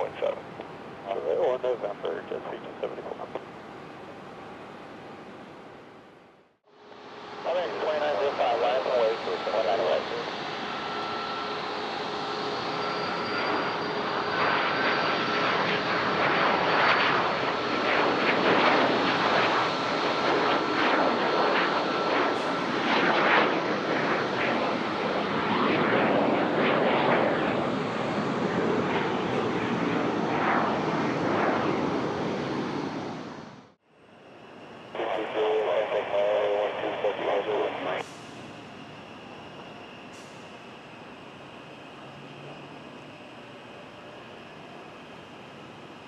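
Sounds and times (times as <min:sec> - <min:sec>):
airplane engines roaring: 0:00.0 - 0:46.0
thin steady whine: 0:00.0 - 0:46.0.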